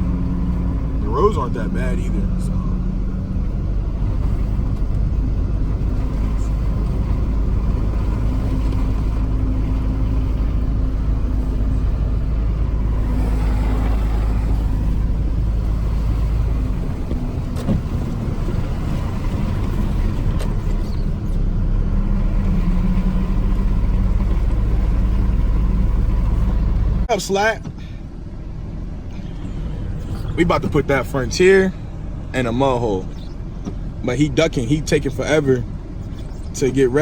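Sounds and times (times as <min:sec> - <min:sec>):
engine and road rumble: 0:00.0 - 0:37.0.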